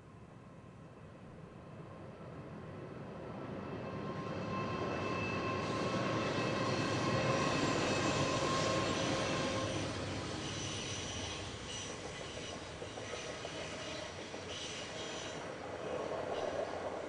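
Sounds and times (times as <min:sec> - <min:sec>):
diesel locomotives rumbling: 0:03.3 - 0:17.0.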